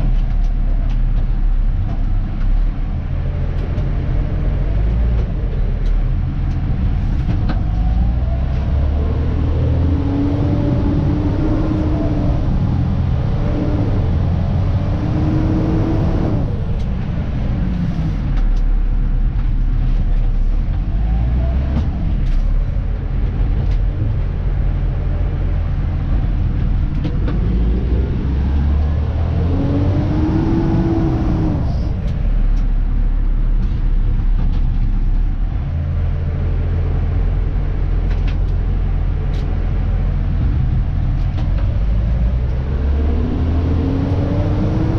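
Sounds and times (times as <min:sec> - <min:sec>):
drivetrain whine: 0:00.0 - 0:44.9
truck engine low rumble: 0:00.0 - 0:44.9.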